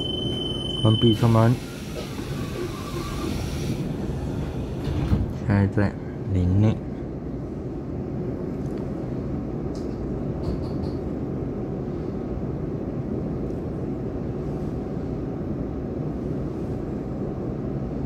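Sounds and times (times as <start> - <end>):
train cabin rumble and hum: 0.0 - 18.0.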